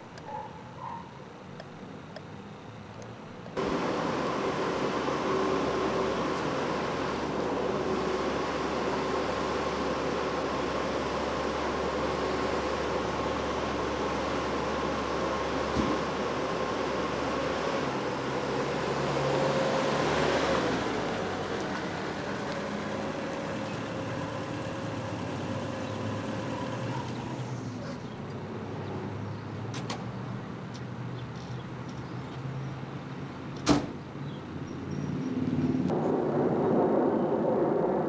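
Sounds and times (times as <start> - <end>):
low vehicle hum: 1.2 - 38.0.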